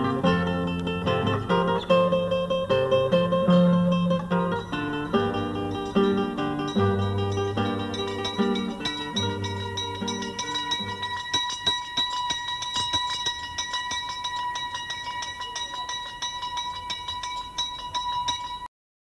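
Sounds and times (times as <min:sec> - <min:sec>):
guitar music: 0:00.0 - 0:18.6
small bell ringing: 0:03.4 - 0:18.7.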